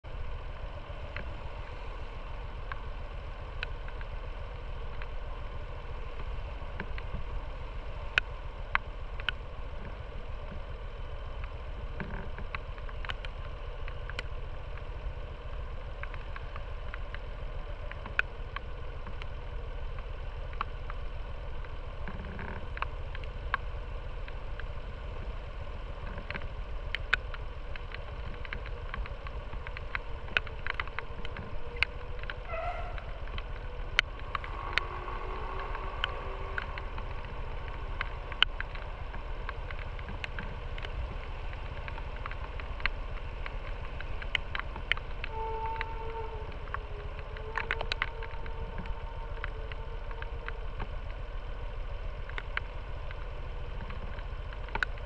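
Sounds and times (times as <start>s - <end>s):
motorcycle engine idling: 0.0s - 55.0s
sharp ticks: 1.0s - 55.0s.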